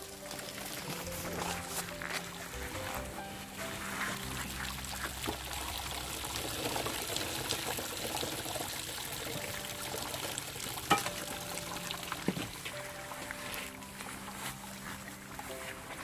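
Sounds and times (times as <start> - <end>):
liquid trickling and pouring: 0.0 - 16.0.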